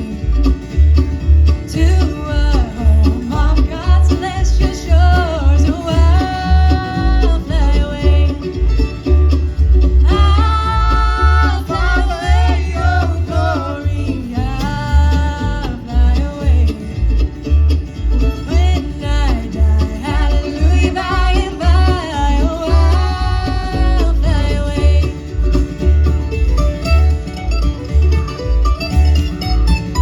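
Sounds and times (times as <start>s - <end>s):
band playing bluegrass: 0.0s - 30.0s.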